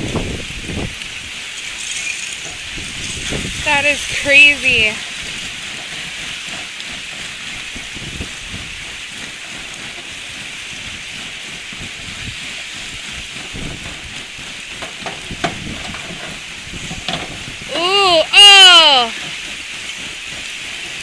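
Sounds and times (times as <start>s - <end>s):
ice grinding and crackling: 0.0s - 21.0s.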